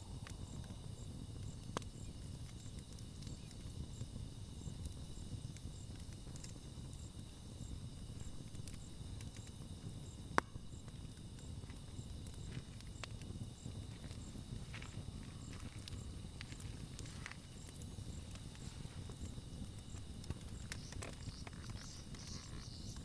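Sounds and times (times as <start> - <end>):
campfire crackling: 0.0 - 23.0
fire popping: 0.0 - 23.0
insects chirping: 0.0 - 23.0.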